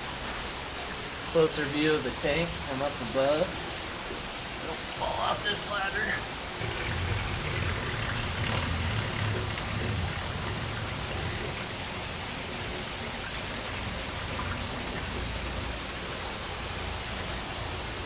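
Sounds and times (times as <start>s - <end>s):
water pouring into tank: 2.5s - 18.0s.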